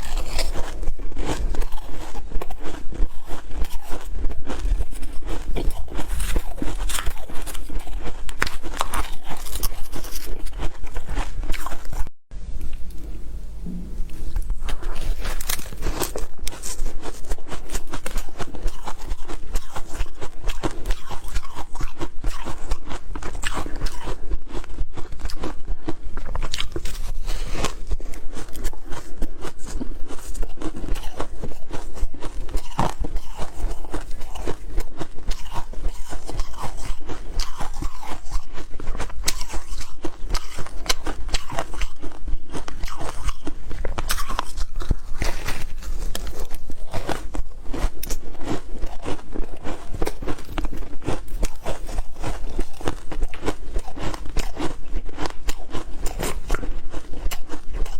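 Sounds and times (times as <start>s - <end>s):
ice being chewed: 0.0s - 12.1s, 14.1s - 57.9s.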